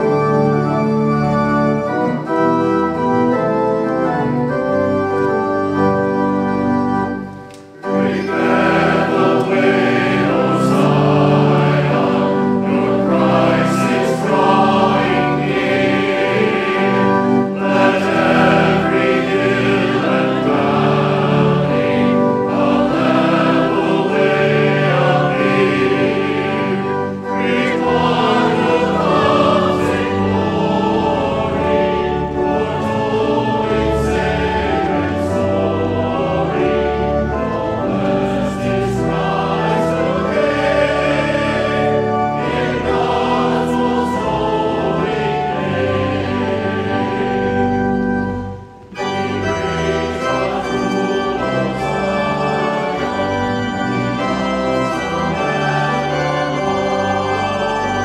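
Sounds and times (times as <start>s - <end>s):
choir singing a hymn: 0.0s - 58.0s
organ accompaniment: 0.0s - 58.0s.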